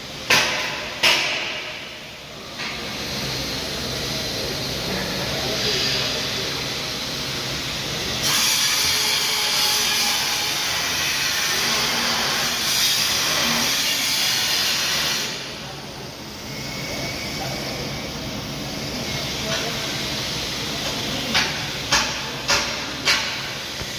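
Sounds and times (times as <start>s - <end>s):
welding arc crackling and hissing: 0.0s - 23.9s.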